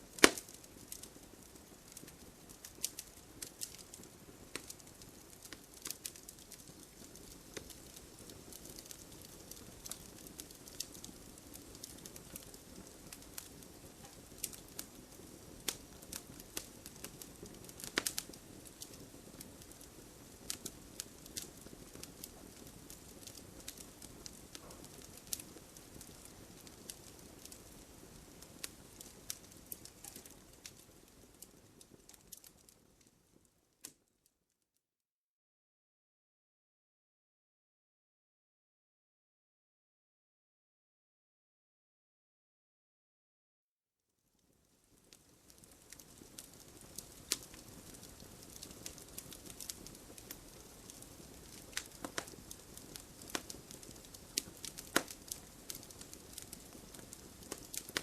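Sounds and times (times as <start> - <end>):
wood fire crackling and popping: 0.0 - 34.1, 44.4 - 58.0.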